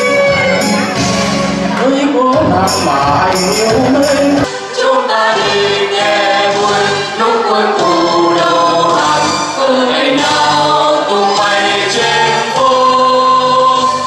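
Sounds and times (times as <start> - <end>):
mixed choir singing: 0.0 - 14.0.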